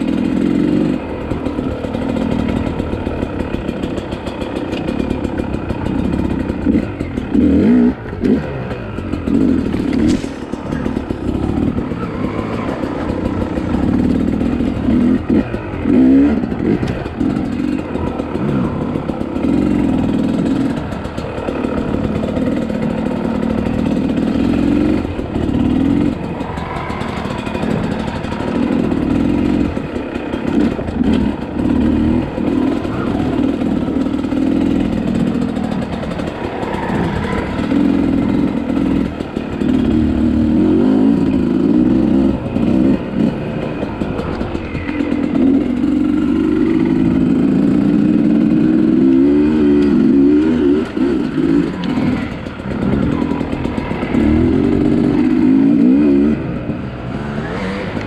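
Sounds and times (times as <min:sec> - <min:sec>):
two-stroke dirt bike engine revving: 0:00.0 - 0:58.0.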